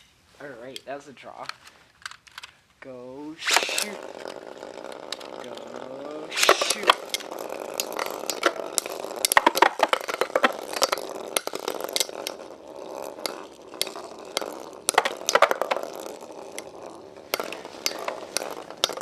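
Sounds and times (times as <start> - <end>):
spinning tops whirring: 3.2 - 19.0
spinning tops clashing and rattling: 3.4 - 19.0.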